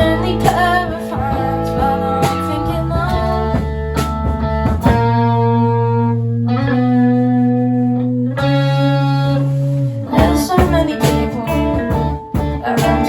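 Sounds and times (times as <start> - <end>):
electric guitar chords ringing: 0.0 - 13.0.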